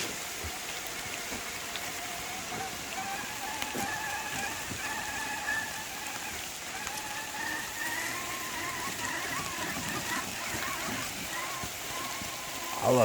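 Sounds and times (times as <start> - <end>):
electric motors whining: 0.0 - 13.0
steady rain falling: 0.0 - 13.0.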